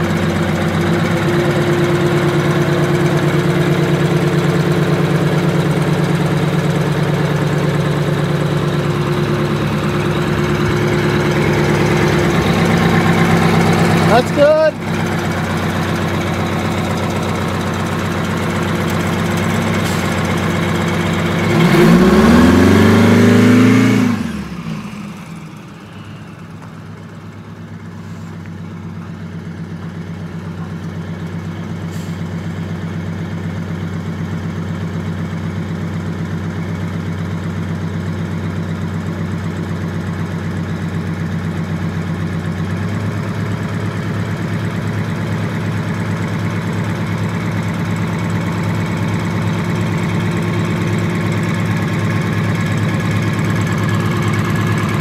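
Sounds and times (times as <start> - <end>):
diesel bus engine idling and revving: 0.0 - 55.0.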